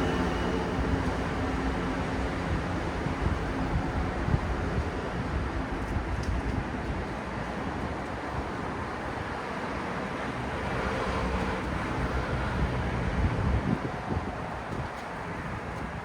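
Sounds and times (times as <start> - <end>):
vehicle engines and tyre noise: 0.0 - 16.0.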